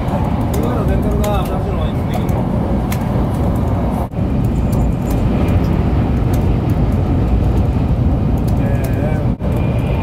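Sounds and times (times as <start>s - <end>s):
train running low rumble: 0.0s - 10.0s.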